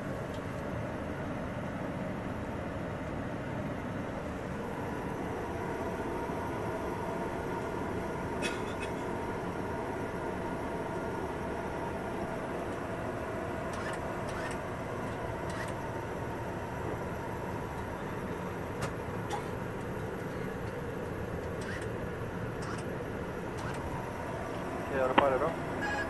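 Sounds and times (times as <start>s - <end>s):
airflow rushing in cockpit: 0.0s - 26.0s
jet engine hum: 0.0s - 26.0s.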